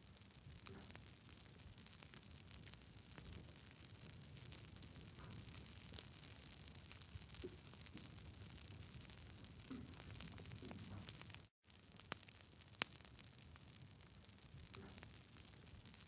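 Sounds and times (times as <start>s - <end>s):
wood crackling in campfire: 0.0s - 16.0s.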